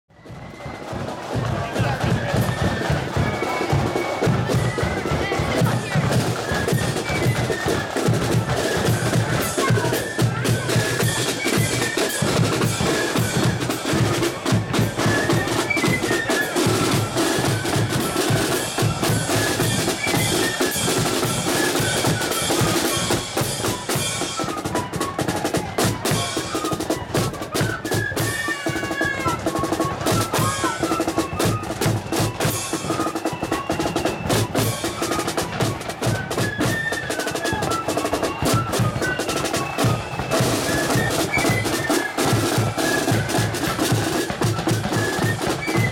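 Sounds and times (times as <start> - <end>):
flutes playing melody: 0.1 - 45.9
side drums: 0.1 - 45.9.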